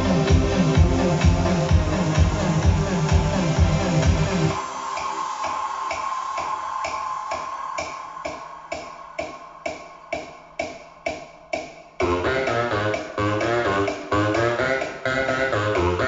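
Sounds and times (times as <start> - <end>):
electronic music through speaker: 0.0 - 16.0.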